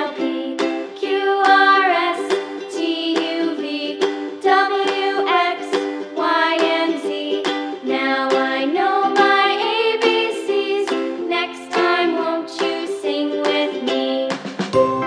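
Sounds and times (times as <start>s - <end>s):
plucked background music: 0.0s - 15.0s.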